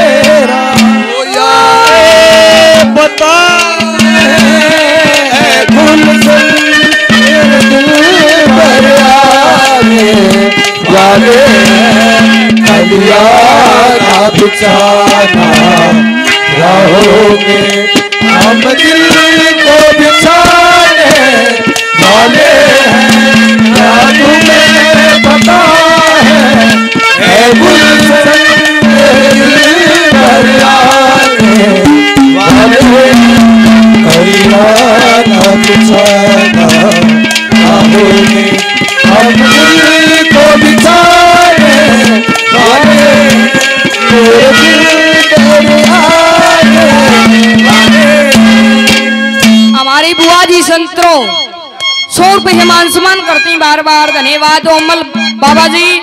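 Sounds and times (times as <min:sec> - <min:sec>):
quick hand-drum strokes: 0:00.0 - 0:50.4
young man singing through pa: 0:00.0 - 0:56.0
long held instrument drone: 0:03.8 - 0:49.9.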